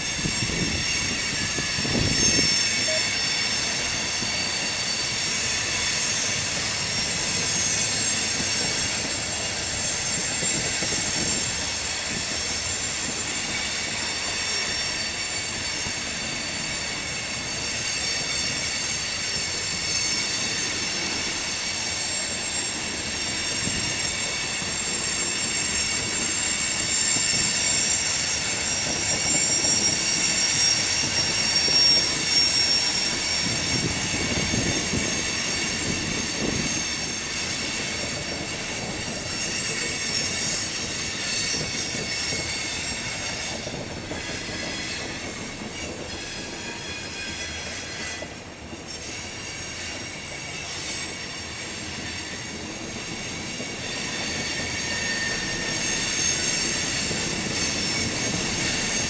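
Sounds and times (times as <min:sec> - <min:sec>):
train wheels squealing: 0:00.0 - 0:59.0.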